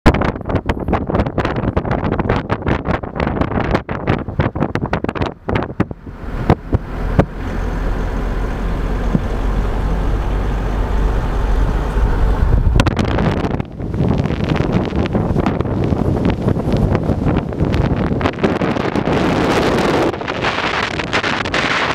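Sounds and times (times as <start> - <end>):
wind buffeting microphone: 0.0 - 21.9
car road and engine rumble: 0.1 - 21.9.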